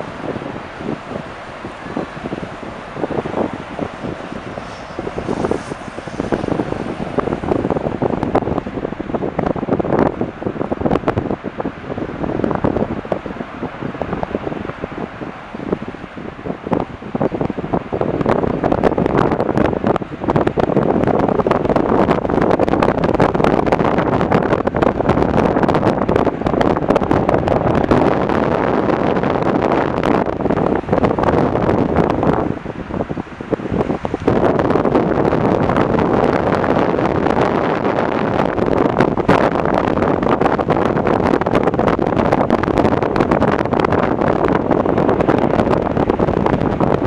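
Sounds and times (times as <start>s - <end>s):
jet engines roaring: 0.0s - 47.0s
wind buffeting microphone: 0.0s - 47.0s.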